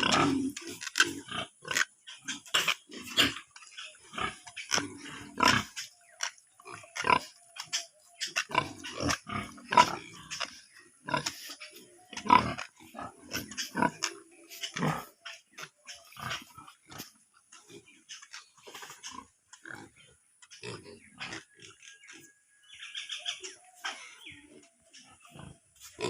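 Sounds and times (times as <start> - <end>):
pigs grunting: 0.0 - 21.8, 23.4 - 26.0.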